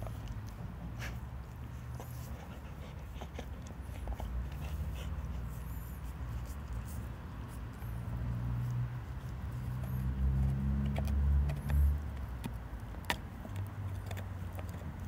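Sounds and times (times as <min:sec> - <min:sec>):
teeth clicking on bone: 0:00.0 - 0:05.0, 0:06.7 - 0:15.0
dog gnawing a bone: 0:00.0 - 0:15.0.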